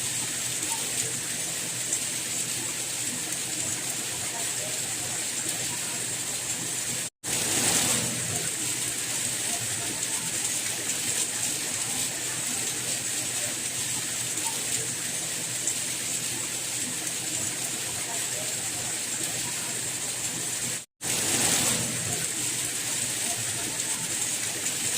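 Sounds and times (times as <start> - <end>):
hissing rain: 0.0 - 24.9.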